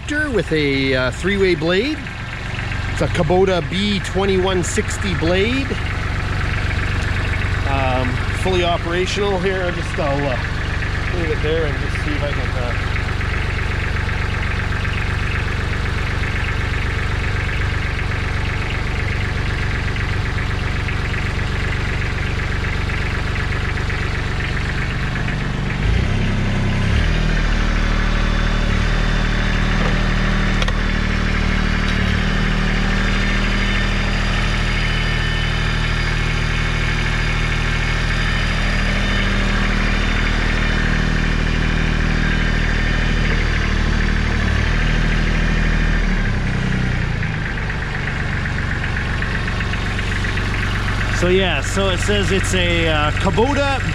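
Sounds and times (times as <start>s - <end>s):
diesel tractor engine idling: 0.0s - 53.9s.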